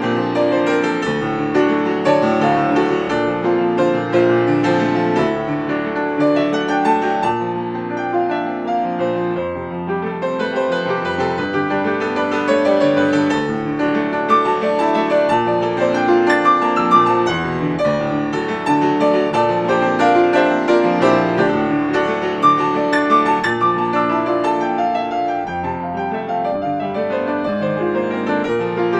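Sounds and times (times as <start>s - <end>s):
solo grand piano: 0.0s - 28.9s.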